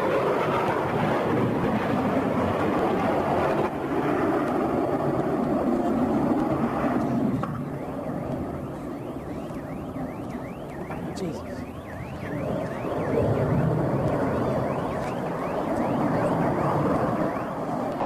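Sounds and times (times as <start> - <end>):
emergency siren yelping: 0.0 - 18.0.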